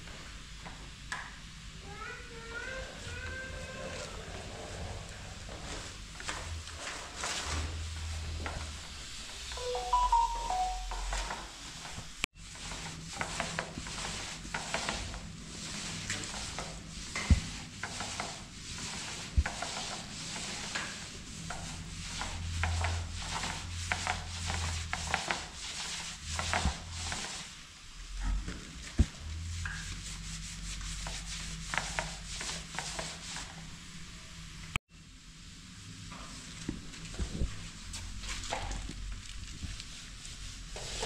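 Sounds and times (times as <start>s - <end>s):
paint roller rubbing on wall: 1.8s - 9.5s, 11.7s - 34.0s, 36.3s - 41.0s
roller in paint tray: 2.4s - 27.6s, 28.4s - 34.0s, 36.3s - 41.0s.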